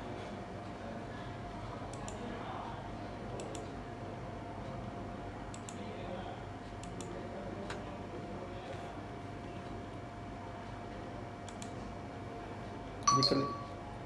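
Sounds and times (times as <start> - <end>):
steady room hum: 0.0 - 14.0.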